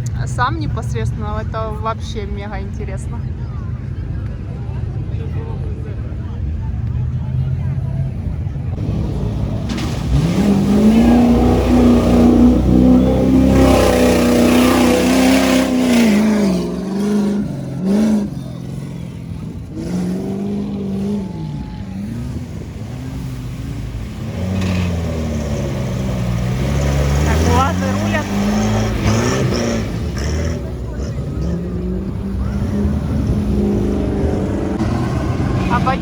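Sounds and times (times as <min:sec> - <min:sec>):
vehicle engine revving: 0:04.9 - 0:36.0.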